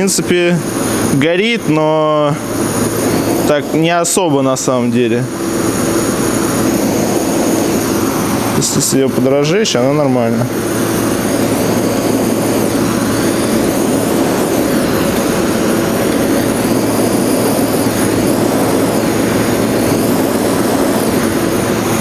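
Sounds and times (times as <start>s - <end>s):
gas torch flame rushing: 0.0s - 22.0s.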